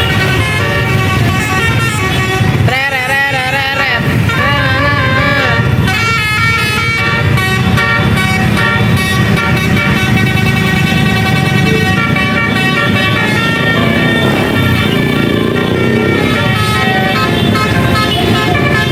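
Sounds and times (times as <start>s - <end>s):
bus musical horn playing a tune: 0.0s - 3.1s, 3.7s - 18.9s
bus engine rumble: 0.0s - 18.9s.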